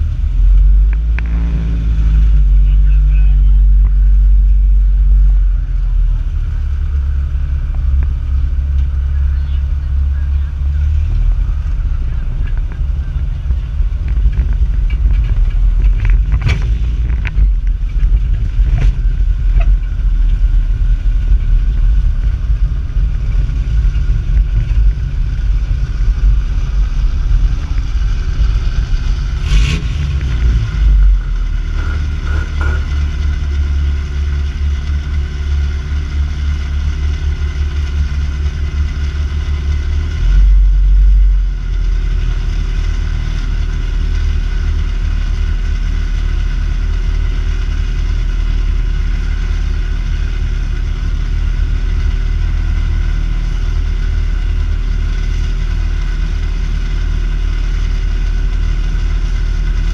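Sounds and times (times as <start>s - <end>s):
engine deep drone: 0.0s - 59.9s.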